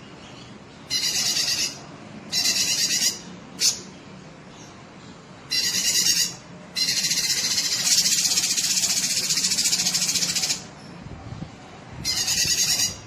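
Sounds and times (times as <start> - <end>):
bird singing raspy trills: 0.0 - 4.8, 5.4 - 10.8, 12.0 - 13.0.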